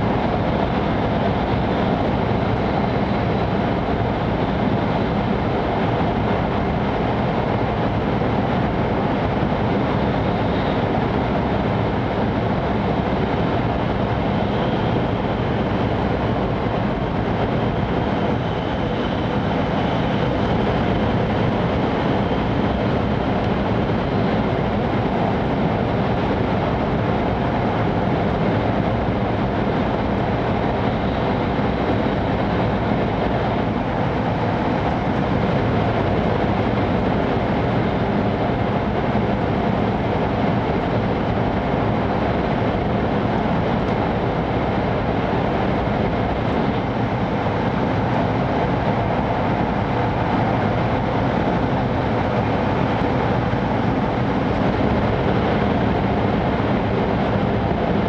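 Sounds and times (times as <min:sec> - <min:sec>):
train cabin rolling and air noise: 0:00.0 - 0:58.0.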